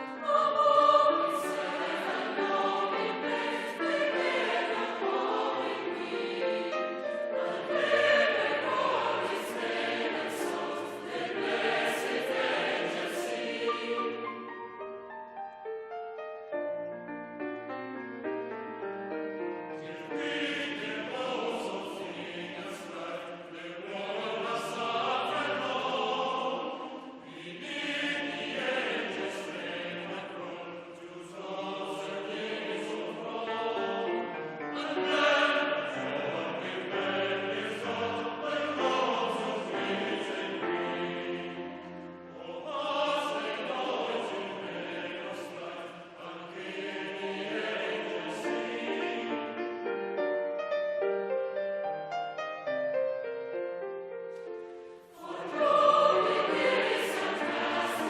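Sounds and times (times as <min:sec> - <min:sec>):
choir singing with accompaniment: 0:00.0 - 0:15.1, 0:19.6 - 0:50.2, 0:54.4 - 0:58.0.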